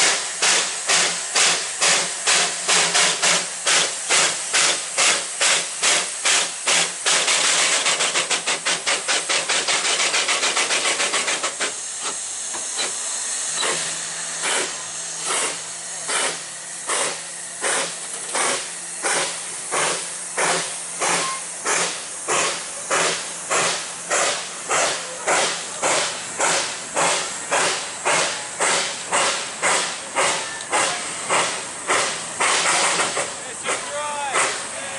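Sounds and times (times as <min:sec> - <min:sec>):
steam hissing: 0:00.0 - 0:34.9
steam locomotive chuffing: 0:00.0 - 0:34.9.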